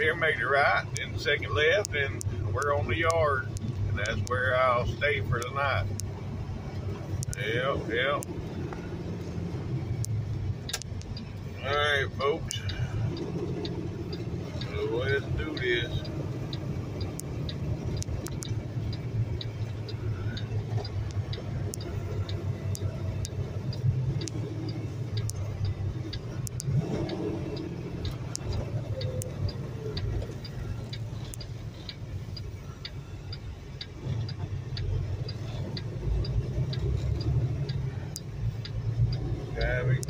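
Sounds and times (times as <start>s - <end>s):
truck diesel engine rumbling: 0.0s - 40.0s
turn signal ticking: 0.0s - 40.0s.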